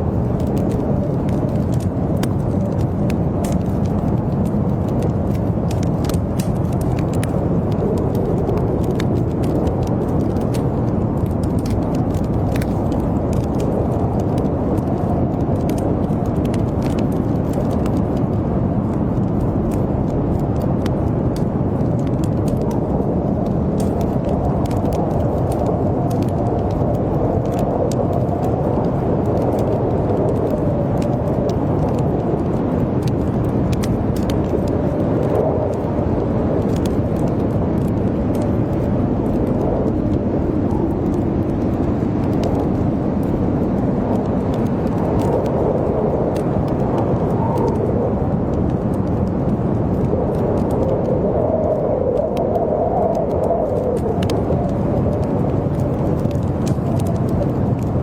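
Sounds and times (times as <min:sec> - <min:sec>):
blizzard wind howling: 0:00.0 - 0:58.0
wood fire crackling: 0:00.0 - 0:58.0.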